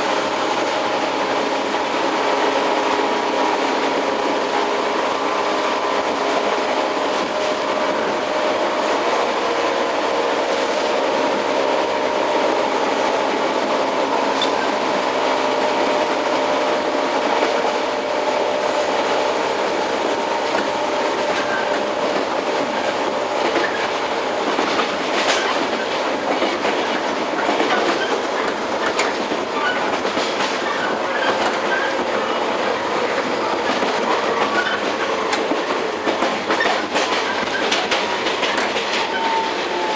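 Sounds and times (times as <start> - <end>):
clickety-clack of rail joints: 0.0 - 39.9
wheel and rail noise: 0.0 - 39.9.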